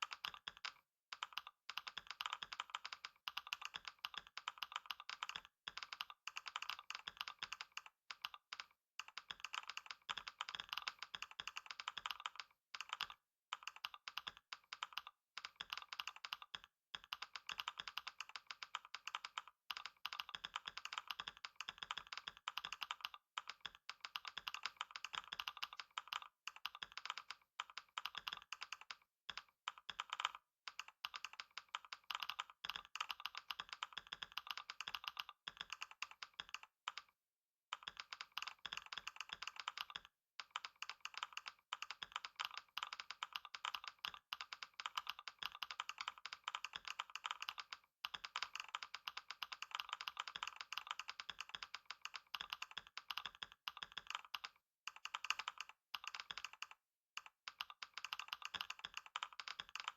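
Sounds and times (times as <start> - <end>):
fast typing on keyboard: 0.0 - 59.9.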